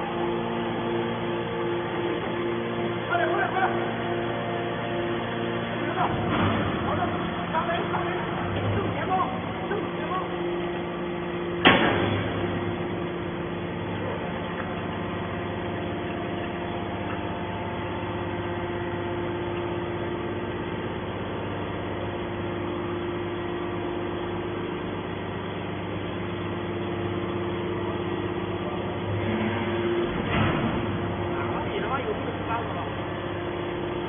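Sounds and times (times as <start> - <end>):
hydraulic pump and motor humming: 0.0 - 34.0.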